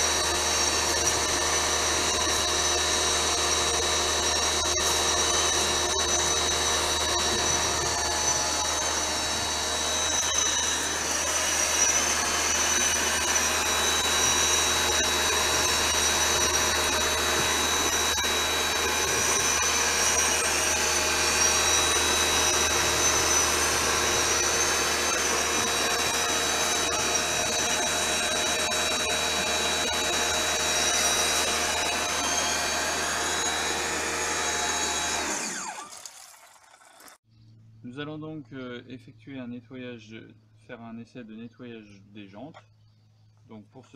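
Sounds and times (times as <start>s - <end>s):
pressure washer motor whine: 0.0s - 37.0s.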